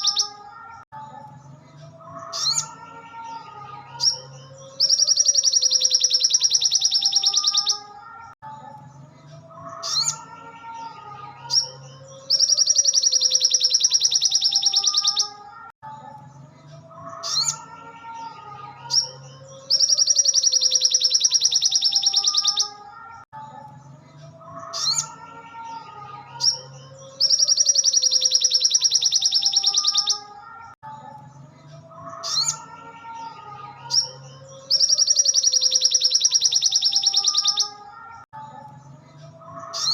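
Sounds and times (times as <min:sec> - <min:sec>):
bird singing rapid trill: 0:00.0 - 0:01.2, 0:02.0 - 0:16.4, 0:17.0 - 0:23.6, 0:24.5 - 0:39.9
bird chirps and warbling: 0:00.0 - 0:39.9.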